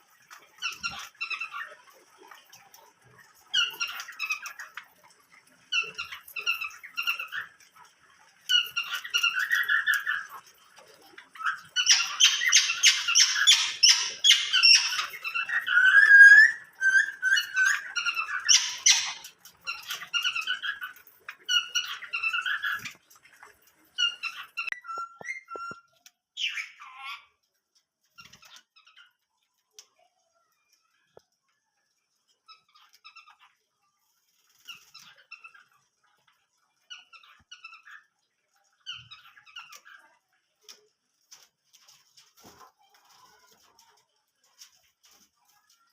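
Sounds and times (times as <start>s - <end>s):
small cage birds chirping: 0.0s - 45.9s.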